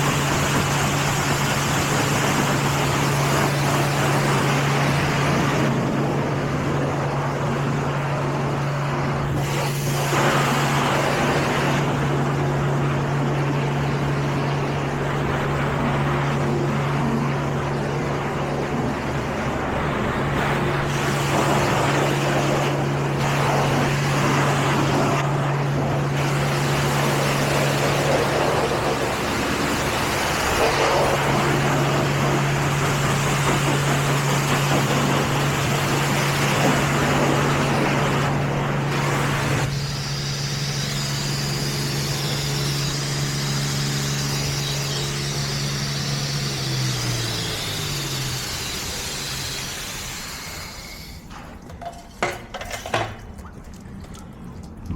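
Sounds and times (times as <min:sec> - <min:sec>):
water spray rushing: 0:00.0 - 0:51.3
machine hum: 0:00.0 - 0:52.7.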